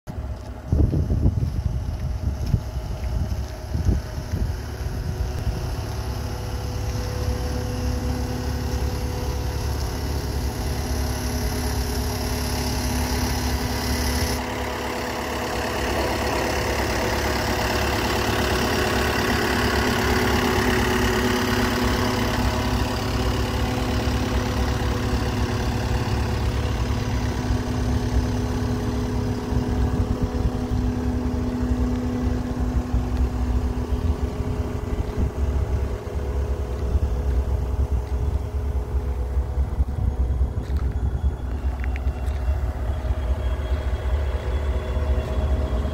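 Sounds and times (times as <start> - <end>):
diesel engine idling: 0.1 - 45.9.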